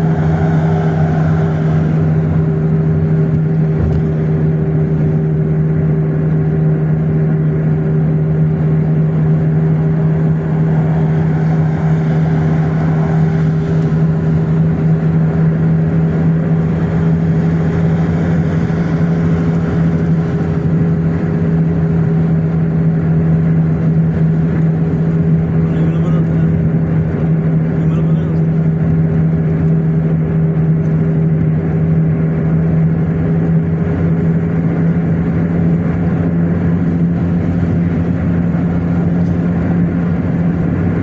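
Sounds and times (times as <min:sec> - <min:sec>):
car engine drone: 0:00.0 - 0:41.0
road noise: 0:00.0 - 0:41.0.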